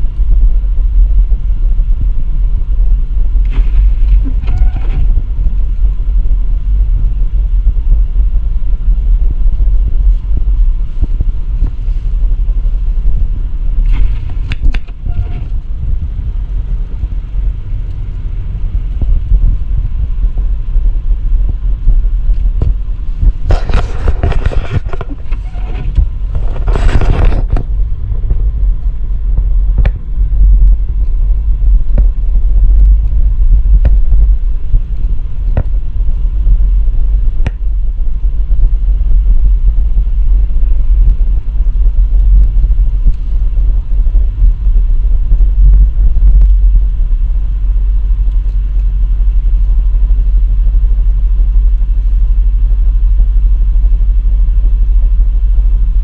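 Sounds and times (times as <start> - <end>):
car cabin low rumble: 0.0 - 56.0.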